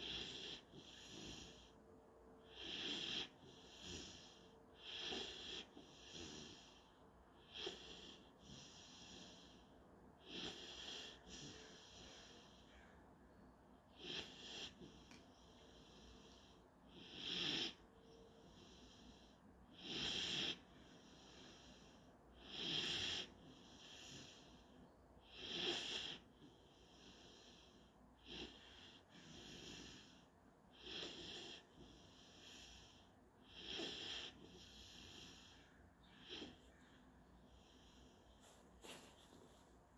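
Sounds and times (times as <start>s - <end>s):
puppy snoring: 0.0s - 12.8s, 13.8s - 39.0s.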